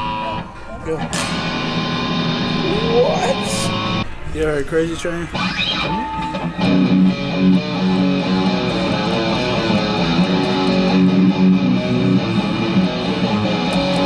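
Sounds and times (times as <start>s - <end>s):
guitar plucked and strummed: 0.0s - 4.3s, 5.3s - 14.0s.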